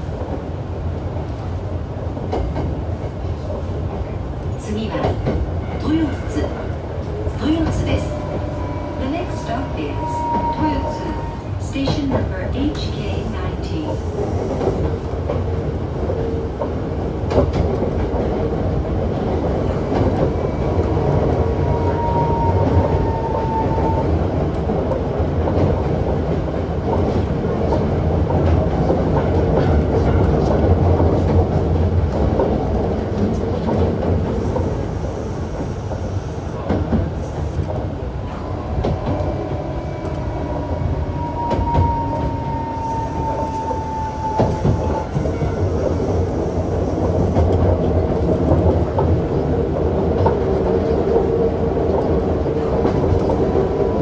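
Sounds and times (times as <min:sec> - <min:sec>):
train wheels rumbling on rail: 0:00.0 - 0:54.0
rail joint clicks: 0:01.2 - 0:54.0.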